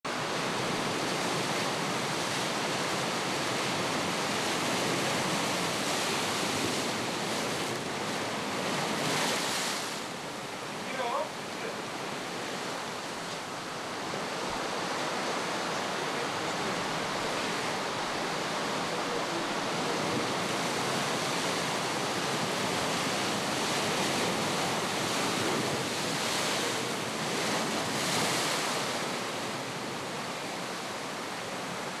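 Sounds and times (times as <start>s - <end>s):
surf breaking on rocky shore: 0.1s - 32.0s.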